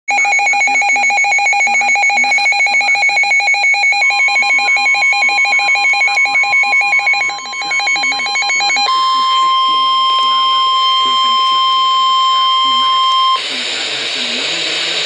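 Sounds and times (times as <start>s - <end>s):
pulsing electronic alarm beep: 0.1s - 13.6s
steady warning tone: 0.1s - 15.0s.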